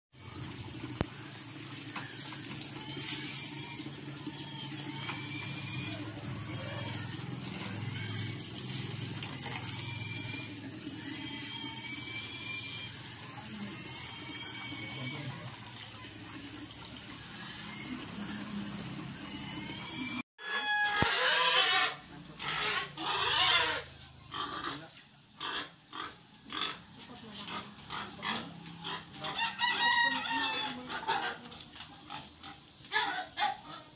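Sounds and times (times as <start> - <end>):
pig squealing and grunting: 1.2 - 33.9.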